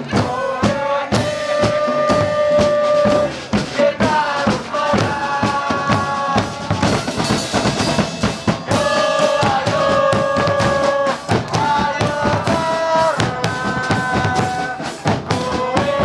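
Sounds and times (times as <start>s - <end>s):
music with loud drum beat: 0.0s - 16.0s.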